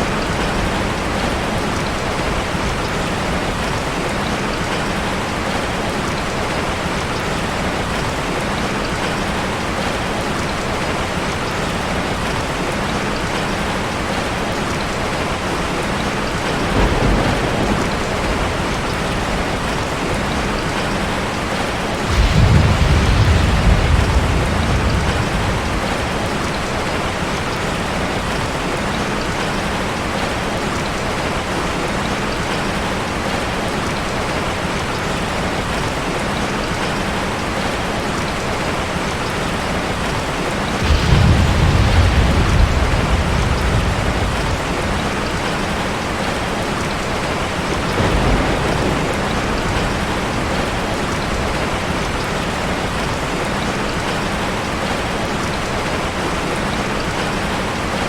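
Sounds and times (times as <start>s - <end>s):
heavy falling water rushing: 0.0s - 58.0s.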